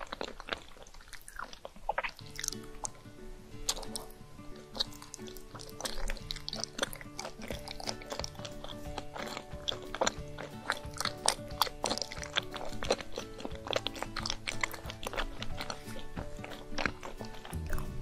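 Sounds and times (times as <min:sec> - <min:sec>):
chewing with wet mouth clicks: 0:00.0 - 0:03.0, 0:03.6 - 0:18.0
background music: 0:02.1 - 0:18.0.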